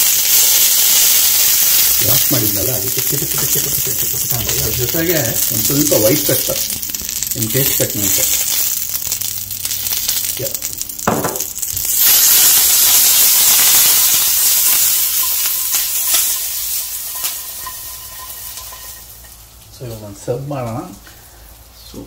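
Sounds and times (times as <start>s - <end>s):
oil sizzling and crackling in pan: 0.0s - 21.8s.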